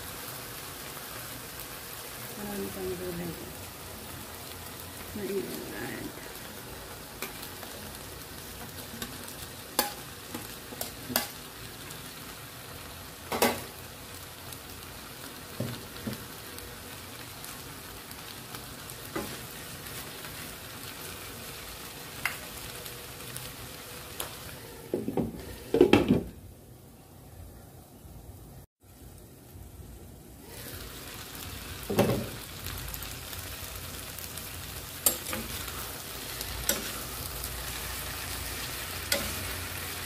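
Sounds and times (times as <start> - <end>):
noodles sizzling in a wok: 0.0 - 27.6, 28.2 - 40.0.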